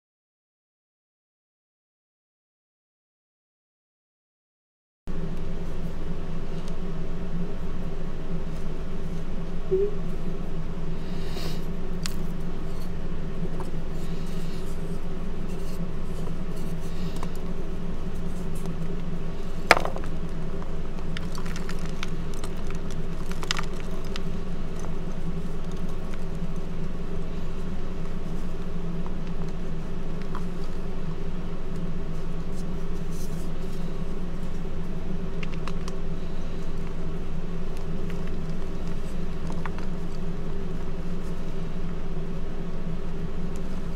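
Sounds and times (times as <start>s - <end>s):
steady low hum: 5.1s - 43.9s.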